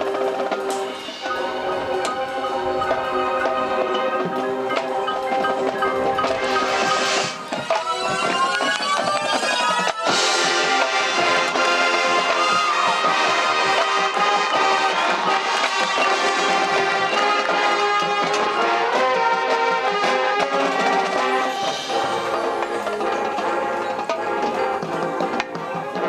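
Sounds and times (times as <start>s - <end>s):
brass sustained chords: 0.0s - 26.0s
marching band playing: 0.0s - 26.0s.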